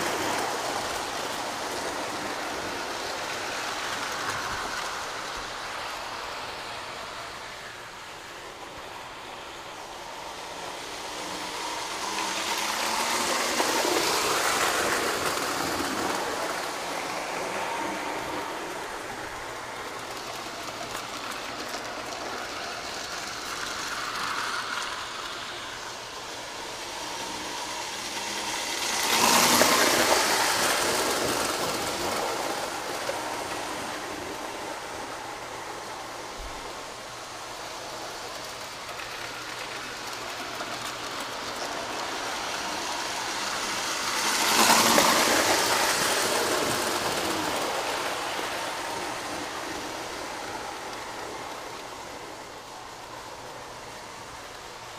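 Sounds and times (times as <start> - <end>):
model trains rumbling on track: 0.0 - 54.9.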